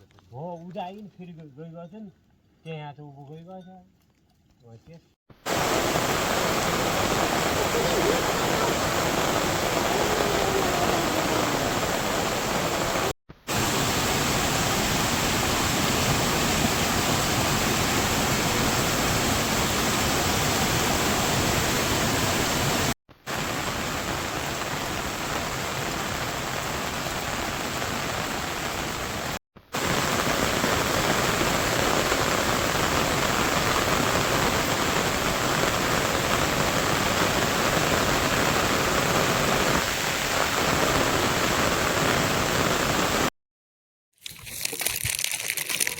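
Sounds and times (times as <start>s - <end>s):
heavy rain falling: 5.4s - 43.3s.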